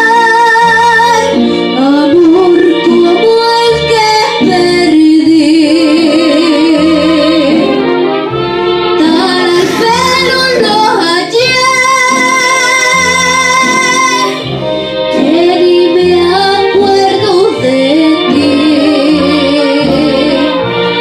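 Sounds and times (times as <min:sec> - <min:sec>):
woman singing into microphone: 0:00.0 - 0:07.8, 0:09.0 - 0:14.4, 0:15.1 - 0:20.6
instrumental backing with bass line: 0:00.0 - 0:21.0.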